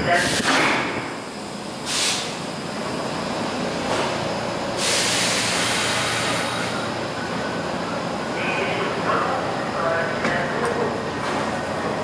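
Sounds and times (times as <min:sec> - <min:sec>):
subway train rumble and hiss: 0:00.0 - 0:12.0.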